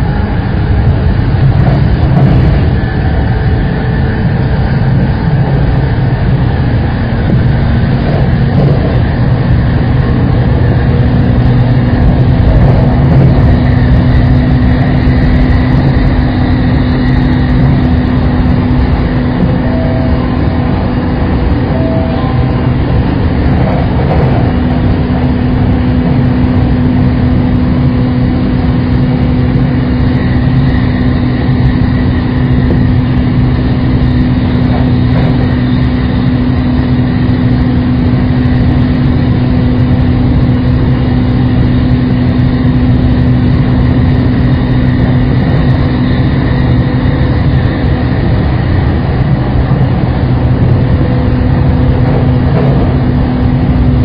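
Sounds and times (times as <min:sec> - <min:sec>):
steady electric hum: 0:00.0 - 0:54.0
train rumble: 0:00.0 - 0:54.0.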